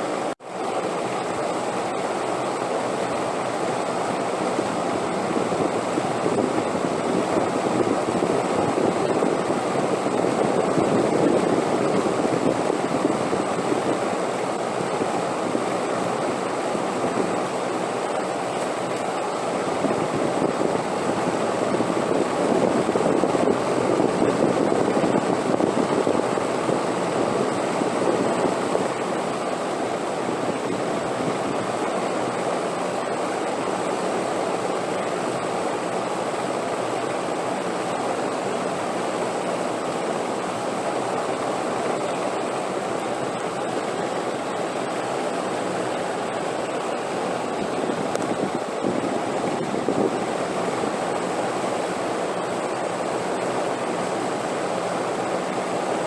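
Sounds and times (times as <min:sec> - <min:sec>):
steady rushing wind: 0:00.0 - 0:56.0.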